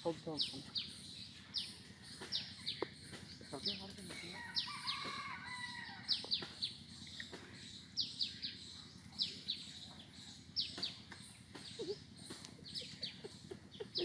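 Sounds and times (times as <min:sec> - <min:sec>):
bird calling: 0:00.0 - 0:14.0
faint outdoor hum: 0:00.0 - 0:14.0.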